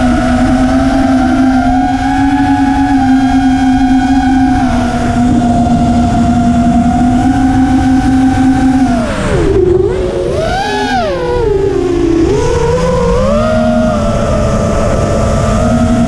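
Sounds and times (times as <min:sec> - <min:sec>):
quadcopter motors whining: 0:00.0 - 0:16.0
wind rushing over microphone: 0:00.0 - 0:16.0.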